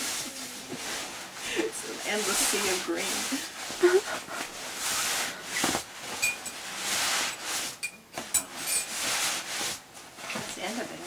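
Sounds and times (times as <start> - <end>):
nylon sleeping bag rustling: 0.0 - 7.8, 8.6 - 11.0.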